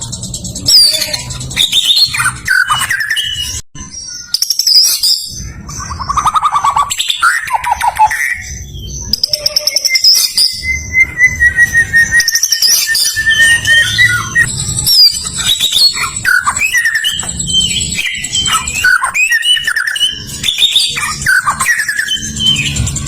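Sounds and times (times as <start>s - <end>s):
bird singing: 0.0s - 23.0s.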